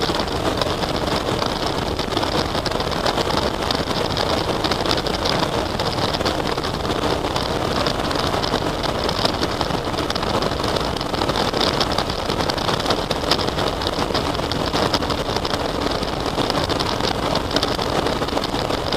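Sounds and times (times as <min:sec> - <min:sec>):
faint motorcycle engine hum: 0:00.0 - 0:18.9
wind and road noise: 0:00.0 - 0:18.9.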